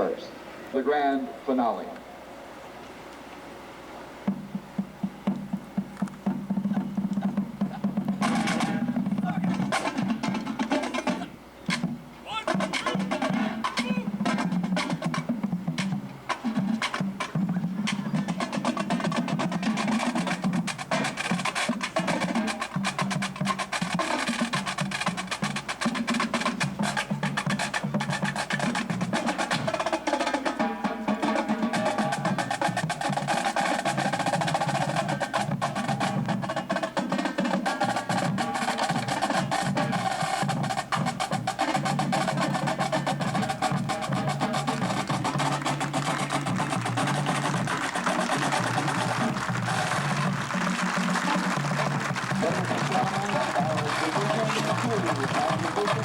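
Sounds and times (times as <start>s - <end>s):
snare drum rolls: 4.3s - 56.0s.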